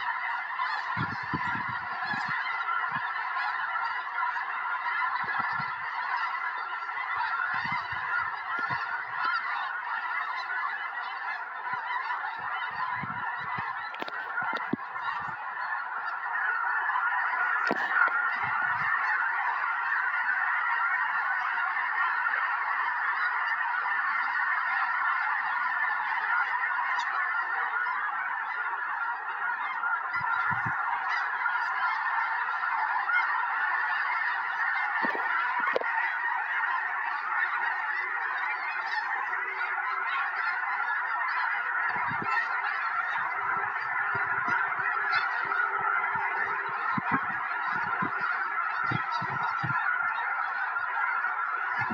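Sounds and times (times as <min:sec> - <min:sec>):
flock of geese honking: 0:00.0 - 0:51.9.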